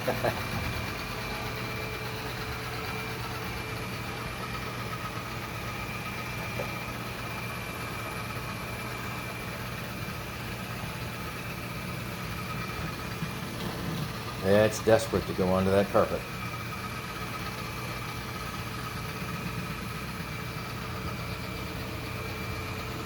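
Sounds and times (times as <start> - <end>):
high constant whine: 0.0 - 23.0
robot vacuum motor hum: 0.0 - 23.0.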